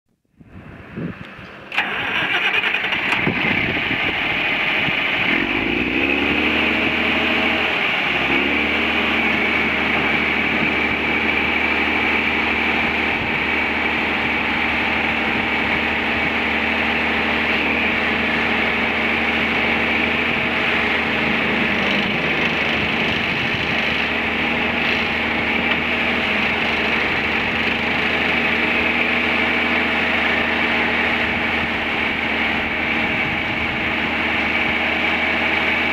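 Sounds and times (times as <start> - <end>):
diesel tractor engine running: 0.4 - 35.9.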